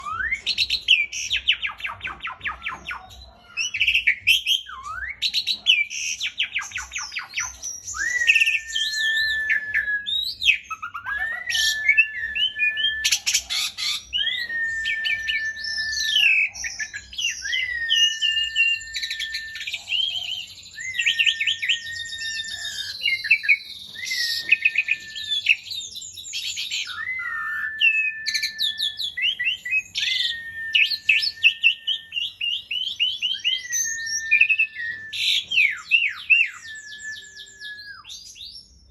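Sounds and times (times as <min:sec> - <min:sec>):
starling singing trills and whistles: 0:00.0 - 0:38.9.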